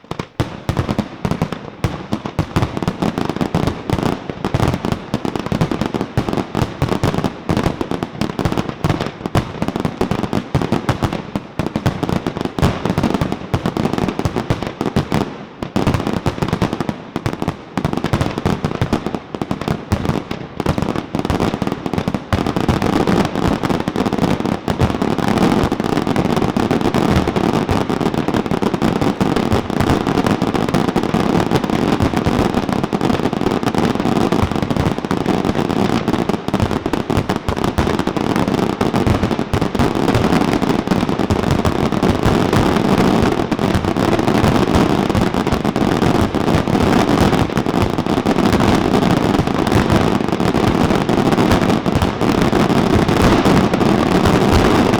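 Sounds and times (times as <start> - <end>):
fireworks barrage: 0.0 - 54.9
fireworks crackling: 0.0 - 54.9.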